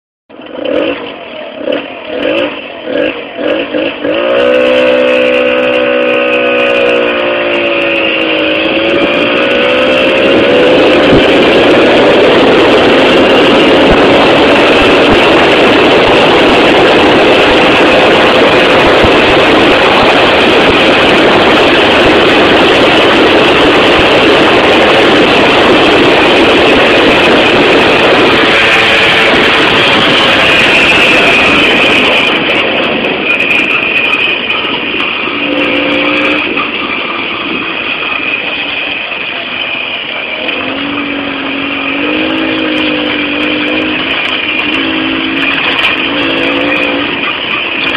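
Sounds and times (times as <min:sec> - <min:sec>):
moped two-stroke engine running: 0:00.3 - 0:47.9
wind rush on microphone: 0:00.3 - 0:47.9.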